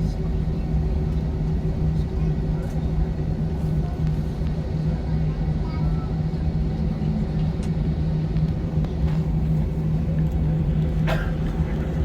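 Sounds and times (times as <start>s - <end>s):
airliner cabin rumble and hum: 0.0s - 12.0s.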